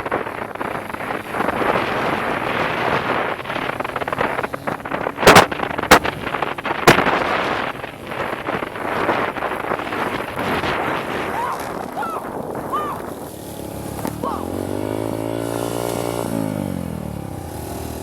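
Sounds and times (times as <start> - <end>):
dirt bike riding: 0.0 - 18.0
wind noise on microphone: 0.0 - 18.0.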